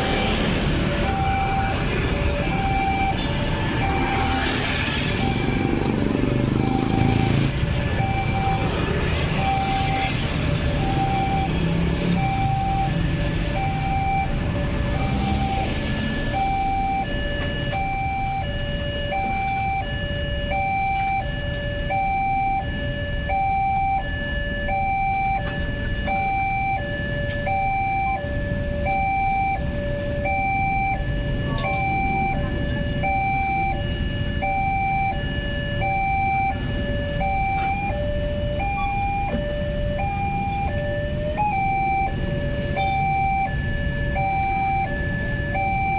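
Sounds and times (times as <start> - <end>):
level crossing alarm two-tone: 0.0 - 45.9
road traffic noise: 0.0 - 45.9.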